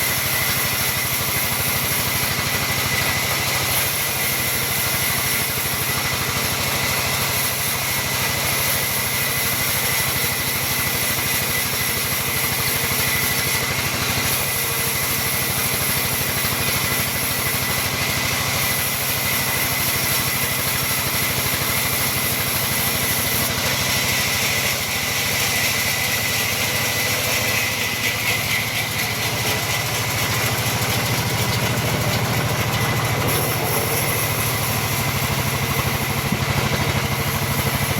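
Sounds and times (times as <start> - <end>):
sawmill machinery sawing timber: 0.0 - 37.9.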